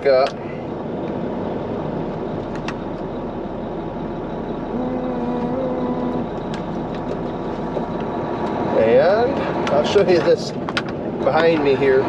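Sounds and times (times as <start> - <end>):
steady hum: 0.0 - 12.0
truck engine running: 0.0 - 12.0.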